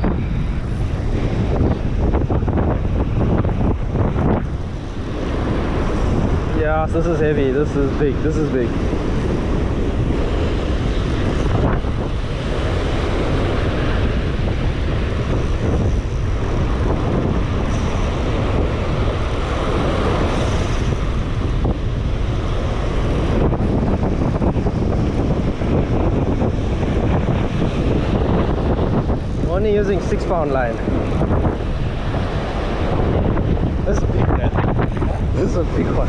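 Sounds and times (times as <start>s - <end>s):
surf: 0.0s - 36.0s
wind buffeting microphone: 0.0s - 36.0s.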